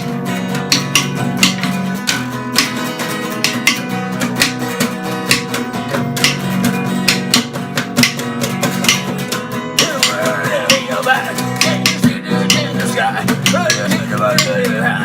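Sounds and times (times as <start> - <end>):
strummed guitar: 0.0 - 15.0.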